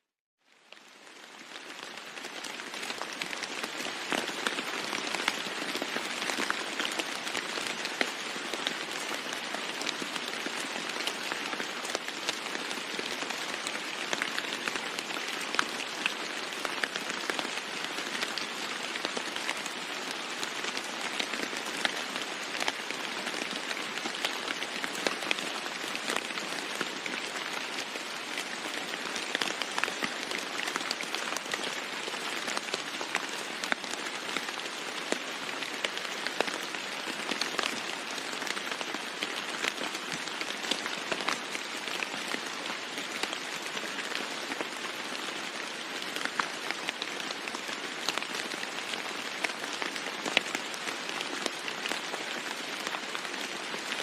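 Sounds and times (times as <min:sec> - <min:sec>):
rain falling on a roof: 0:00.4 - 0:54.0.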